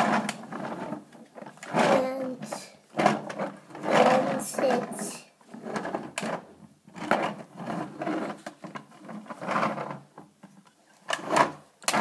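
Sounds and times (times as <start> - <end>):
plastic toy rattling and scraping: 0.0 - 12.0.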